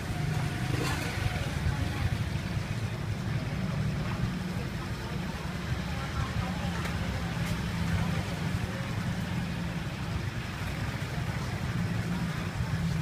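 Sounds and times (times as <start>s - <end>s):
distant voices: 0.0s - 13.0s.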